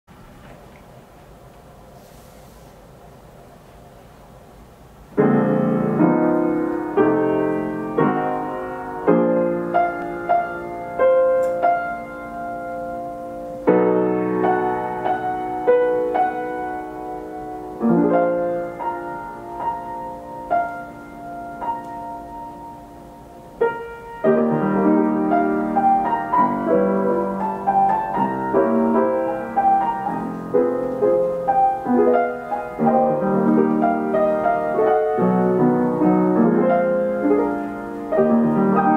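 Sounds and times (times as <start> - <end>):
player piano playing: 5.0 - 38.9.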